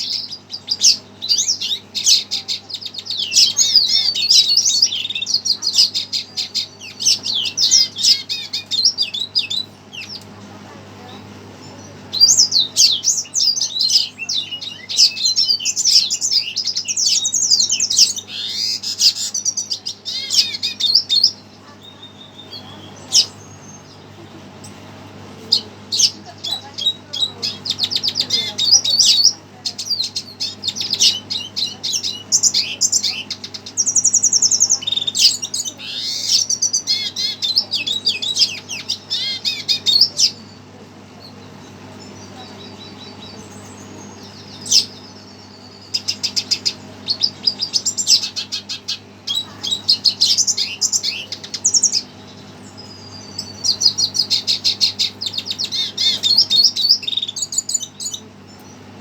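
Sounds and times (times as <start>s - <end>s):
bird twittering and trilling: 0.0s - 59.0s
steady low hum: 0.0s - 59.0s.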